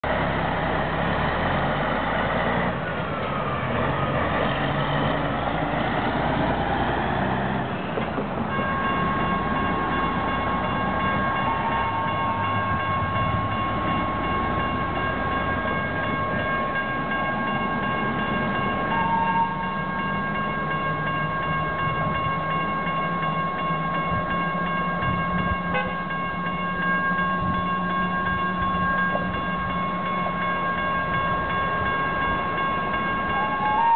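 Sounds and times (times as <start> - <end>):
railroad crossing warning bell: 0.0 - 33.9
road traffic: 0.0 - 33.9
vehicle passing: 0.1 - 33.9.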